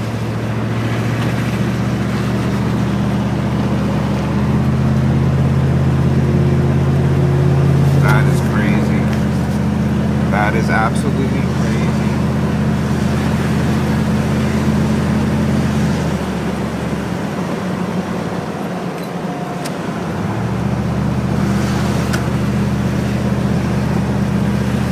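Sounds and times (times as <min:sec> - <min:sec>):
road noise inside cab: 0:00.0 - 0:24.9
truck engine hum: 0:00.0 - 0:24.9.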